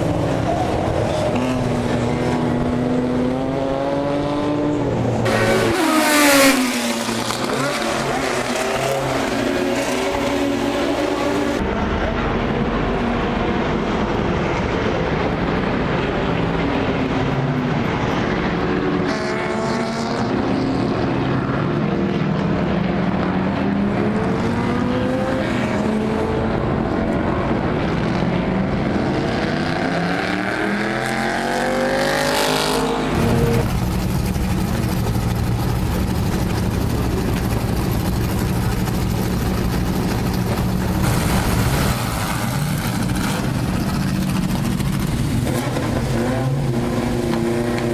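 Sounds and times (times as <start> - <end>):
racing car engines revving: 0.0 - 47.9.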